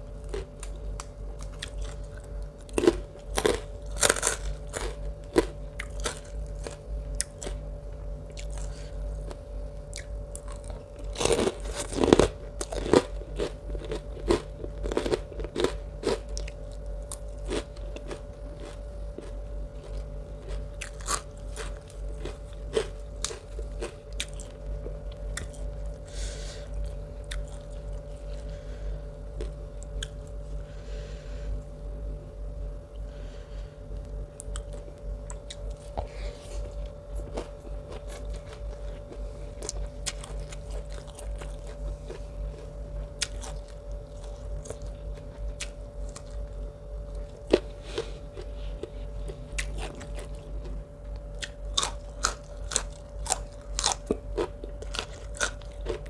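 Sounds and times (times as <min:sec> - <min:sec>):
crunching and chewing crisp food: 0:00.0 - 0:56.0
faint steady hum: 0:00.0 - 0:56.0.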